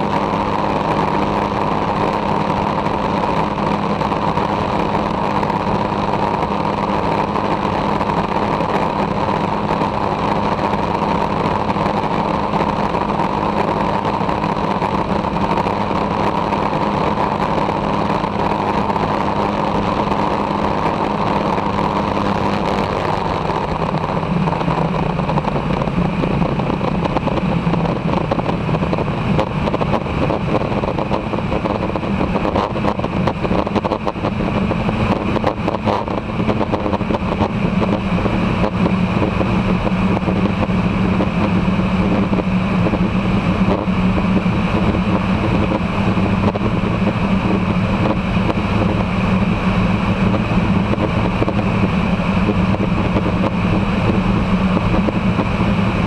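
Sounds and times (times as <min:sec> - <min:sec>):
light aircraft engine droning: 0:00.0 - 0:56.0
rush of airflow: 0:00.0 - 0:56.0.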